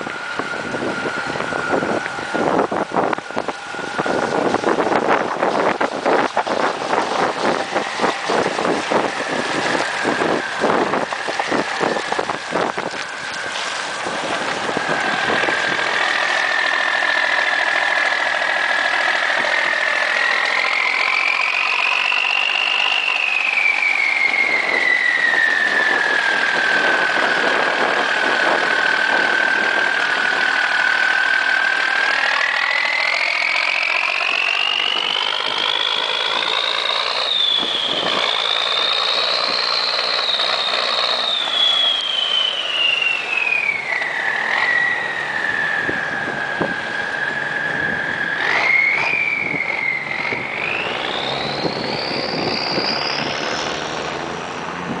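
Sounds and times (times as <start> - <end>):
diesel truck engine clattering: 0.0 - 55.0
engine whine: 0.0 - 55.0.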